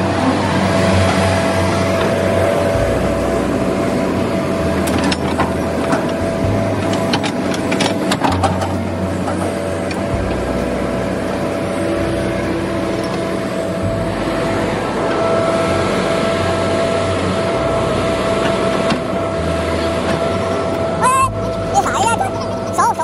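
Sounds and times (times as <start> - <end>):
excavator diesel engine running: 0.0 - 23.0
hydraulics working: 0.0 - 23.0.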